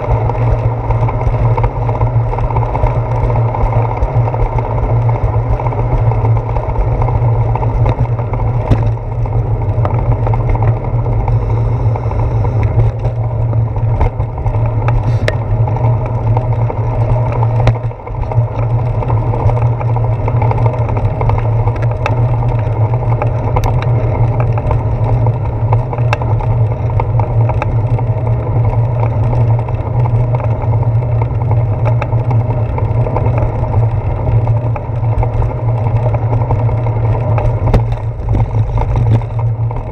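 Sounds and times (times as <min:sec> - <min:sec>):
bicycle riding rumble: 0:00.0 - 0:39.9
wind: 0:00.0 - 0:39.9.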